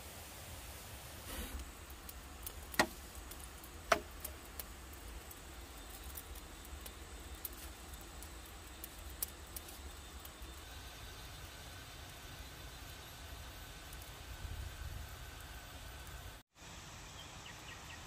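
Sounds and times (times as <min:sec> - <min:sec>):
wood fire crackling and popping: 0:01.3 - 0:16.4.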